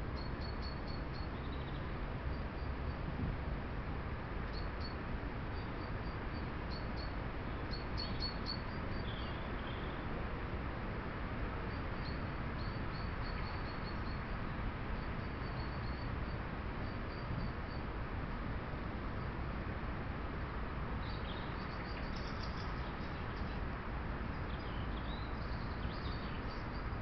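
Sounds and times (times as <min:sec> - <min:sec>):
steady hiss and low rumble: 0:00.0 - 0:27.0.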